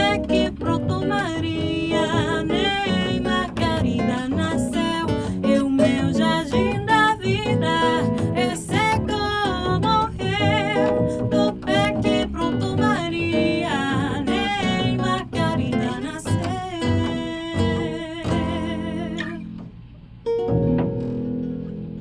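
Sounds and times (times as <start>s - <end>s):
woman singing with vibrato: 0.0s - 19.6s
plucked classical guitar: 0.0s - 22.0s
plucked double bass: 0.0s - 22.0s.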